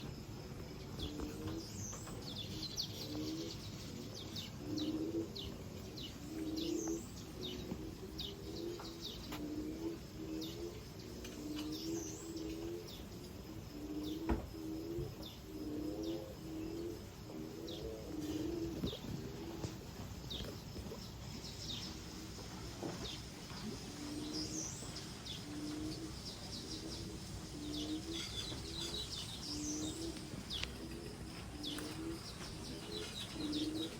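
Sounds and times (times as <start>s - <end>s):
doves cooing: 0.0s - 33.9s
small birds chirping: 0.0s - 33.9s.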